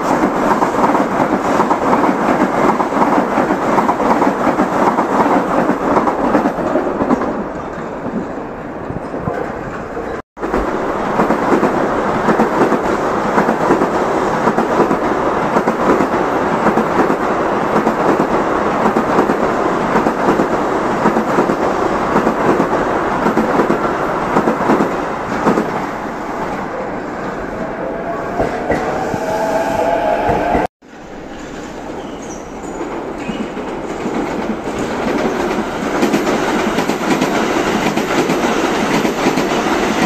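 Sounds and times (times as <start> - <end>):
train passing rush: 0.0 - 40.0.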